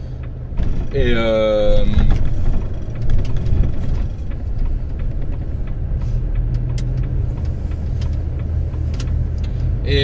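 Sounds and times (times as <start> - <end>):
lorry diesel engine rumbling: 0.0 - 10.0.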